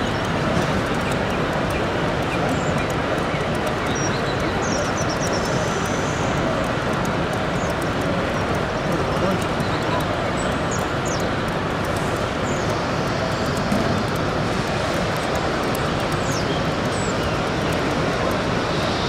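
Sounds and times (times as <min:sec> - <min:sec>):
crowd hubbub: 0:00.0 - 0:19.0.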